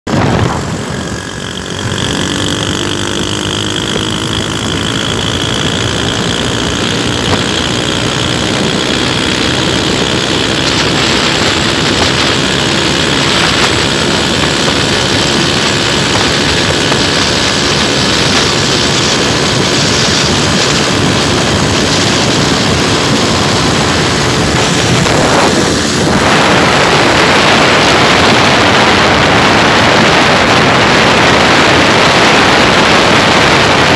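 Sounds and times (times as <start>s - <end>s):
motorcycle engine accelerating: 0.0s - 33.9s
wind rushing over microphone: 0.0s - 33.9s.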